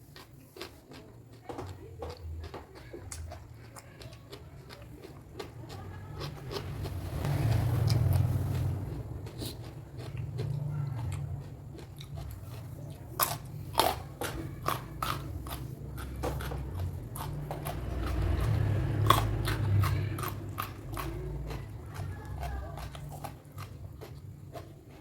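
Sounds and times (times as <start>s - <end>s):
crunchy food chewing: 0.0s - 25.0s.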